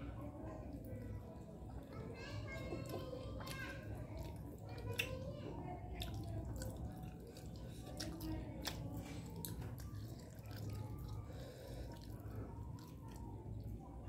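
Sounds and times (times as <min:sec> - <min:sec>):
wet chewing: 0:00.6 - 0:14.0.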